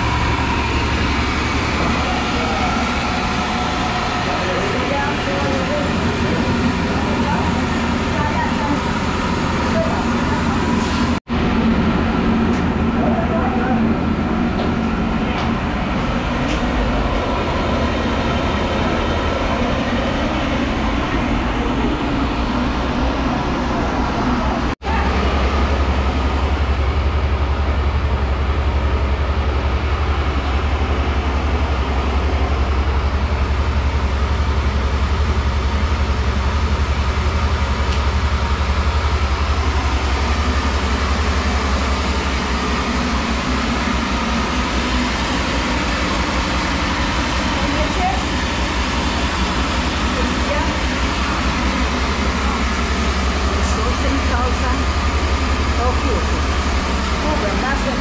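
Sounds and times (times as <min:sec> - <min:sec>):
flour mill rumbling: 0:00.0 - 0:58.0.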